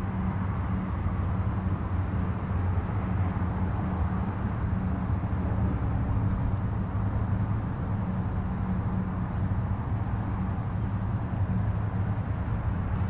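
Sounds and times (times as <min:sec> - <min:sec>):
distant highway traffic rumble: 0:00.0 - 0:13.0.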